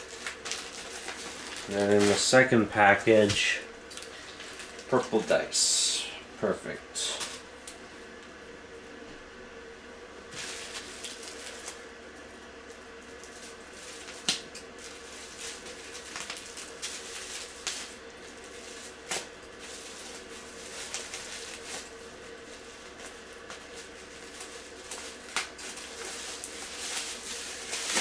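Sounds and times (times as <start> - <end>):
packaging rustling: 0.0 - 6.0, 10.3 - 28.0
faint steady hum: 0.0 - 28.0.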